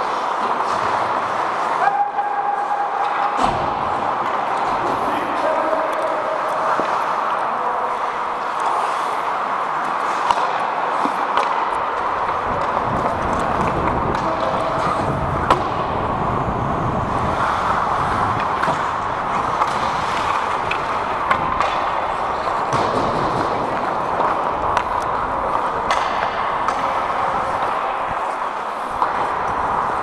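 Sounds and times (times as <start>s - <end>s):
hockey sticks and puck clacking: 0.0s - 30.0s
skates scraping on ice: 0.0s - 30.0s.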